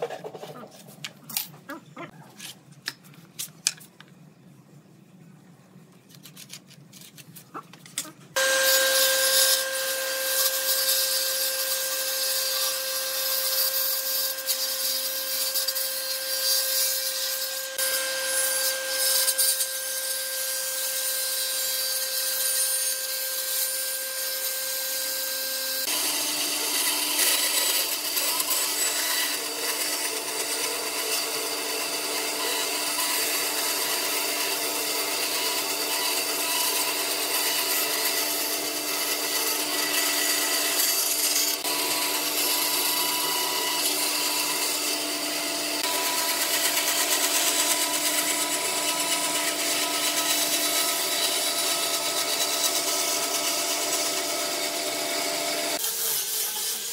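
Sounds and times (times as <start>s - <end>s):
band saw cutting wood: 8.4s - 56.9s
woodworking machine whine: 8.4s - 56.9s.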